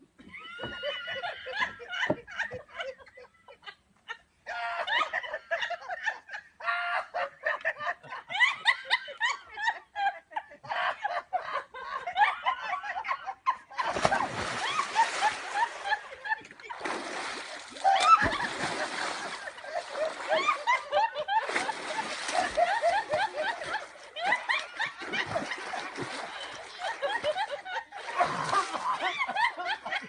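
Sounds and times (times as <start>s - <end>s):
people laughing and snickering: 0.2s - 30.0s.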